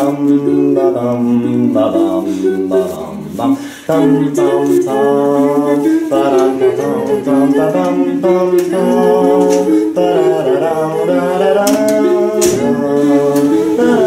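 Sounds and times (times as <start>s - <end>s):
voices singing in harmony: 0.0s - 14.0s.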